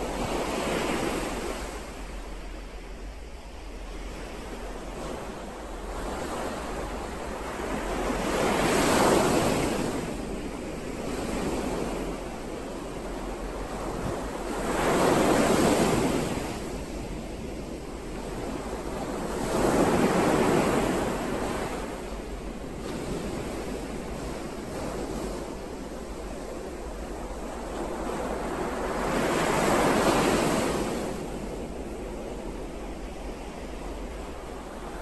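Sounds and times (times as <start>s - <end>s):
ocean waves breaking: 4.0s - 35.0s.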